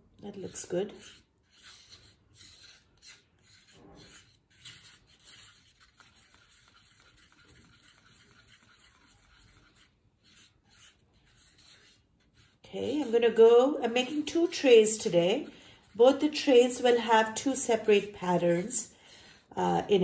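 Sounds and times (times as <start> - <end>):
stick scraping paper cup: 0.2 - 20.0.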